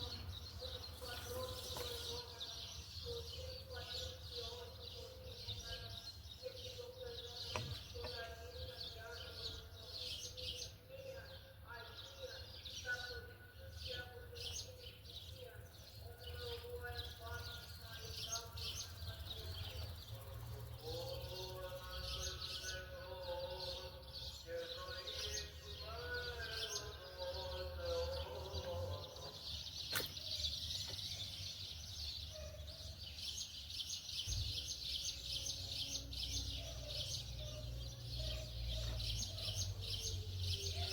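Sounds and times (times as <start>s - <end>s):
high-pitched chirping chorus: 0.0s - 40.9s.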